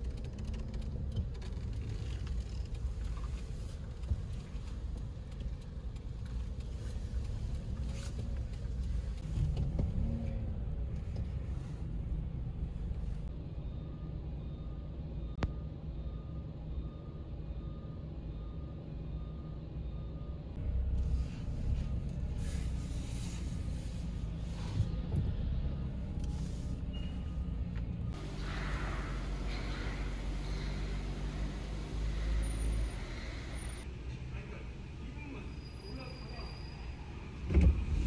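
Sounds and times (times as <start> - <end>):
road noise: 0.0 - 16.8, 18.2 - 38.0
car engine rumble: 0.0 - 35.2.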